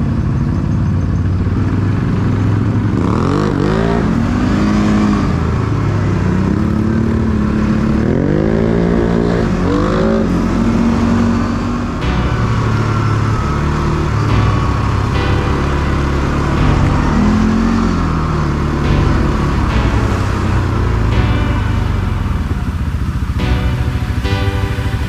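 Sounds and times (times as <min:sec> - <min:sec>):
atv engine revving: 0:01.4 - 0:25.0.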